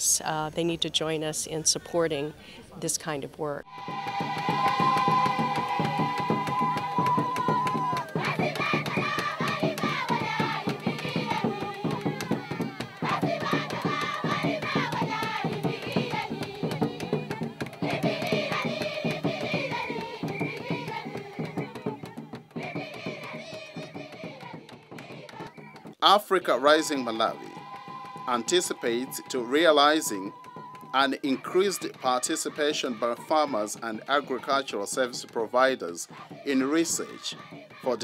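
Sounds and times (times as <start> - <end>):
women singing together: 3.7 - 25.9, 27.0 - 35.2, 35.8 - 38.0
rhythmic percussion: 3.7 - 38.0.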